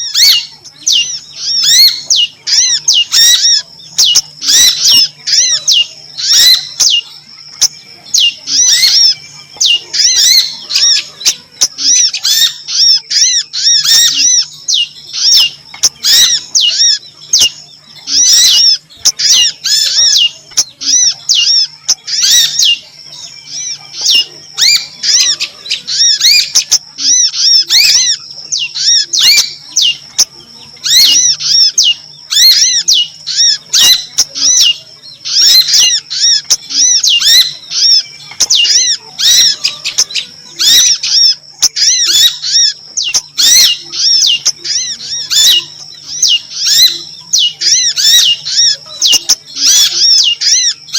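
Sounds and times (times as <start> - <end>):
songbird chirping: 0.0 - 50.9.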